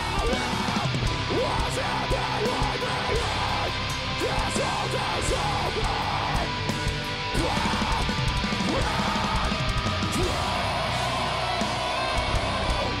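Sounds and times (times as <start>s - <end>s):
heavy metal band playing live: 0.0s - 13.0s.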